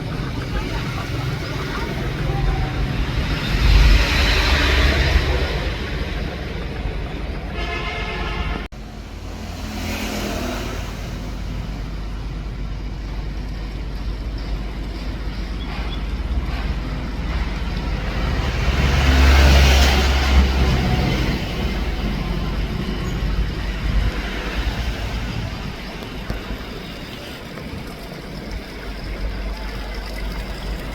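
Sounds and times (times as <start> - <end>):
engine rumbling: 0.0 - 30.9.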